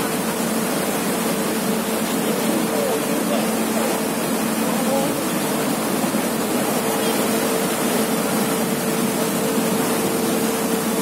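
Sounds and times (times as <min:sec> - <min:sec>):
engine hum: 0:00.0 - 0:11.0
propeller wake rushing: 0:00.0 - 0:11.0.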